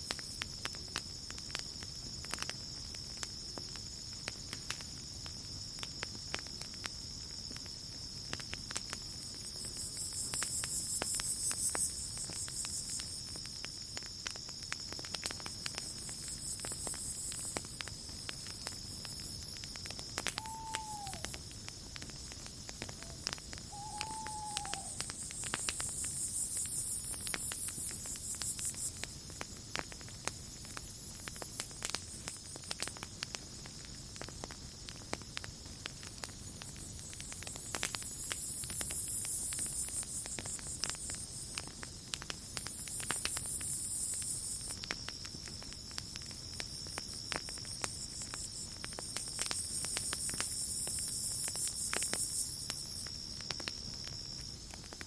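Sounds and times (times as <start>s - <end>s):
campfire crackling and popping: 0.0s - 55.0s
cricket trill: 0.0s - 55.0s.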